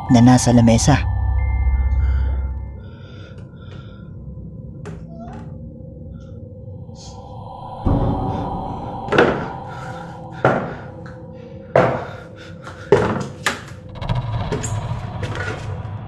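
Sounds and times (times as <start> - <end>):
eerie music drone: 0.0 - 16.0.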